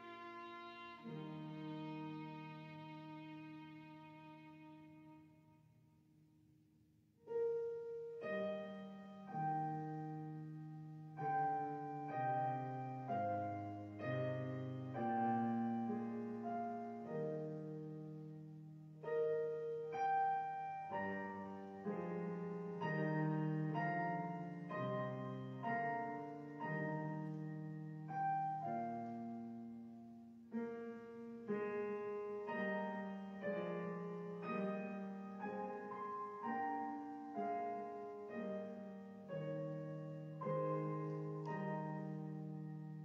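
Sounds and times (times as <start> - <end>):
solo piano music: 0.0 - 43.0.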